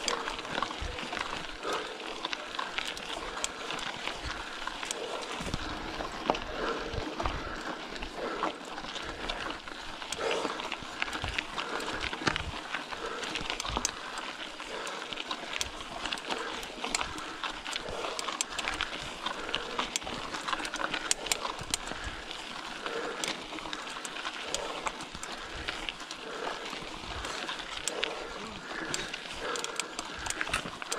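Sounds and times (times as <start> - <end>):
bicycle clicks and rattles: 0.0 - 30.9.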